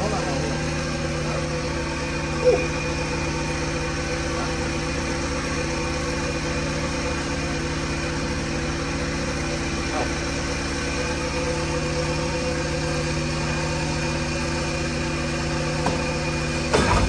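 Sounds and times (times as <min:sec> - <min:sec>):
jet ski engine idling: 0:00.0 - 0:17.0.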